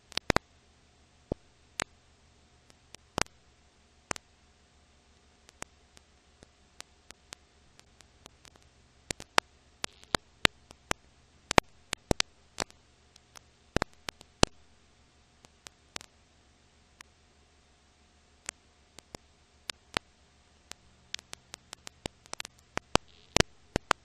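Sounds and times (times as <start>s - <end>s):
film crackle clicks and pops: 0.0s - 0.5s, 1.3s - 2.0s, 2.6s - 4.4s, 5.2s - 16.2s, 18.4s - 24.0s
faint steady hiss: 0.0s - 24.0s
low hum: 0.0s - 24.0s.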